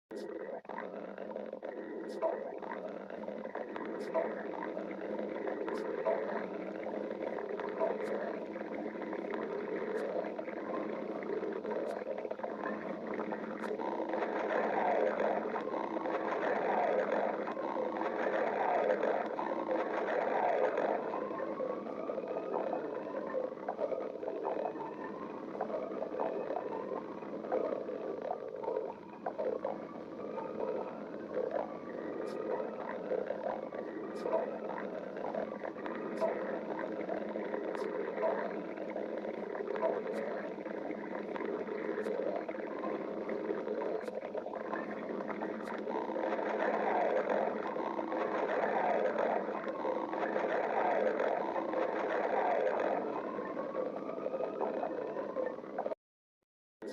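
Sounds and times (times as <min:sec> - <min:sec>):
stomach growling: 0:00.1 - 0:56.0.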